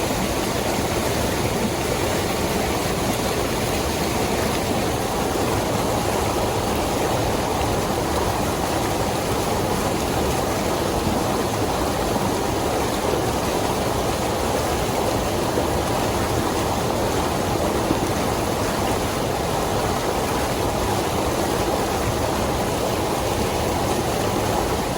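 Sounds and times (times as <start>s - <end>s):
creek water rushing: 0.0s - 24.9s.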